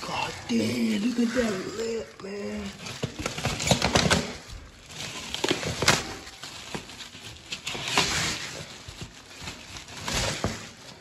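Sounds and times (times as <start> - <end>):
cardboard and wrapping rustling: 0.0 - 11.0.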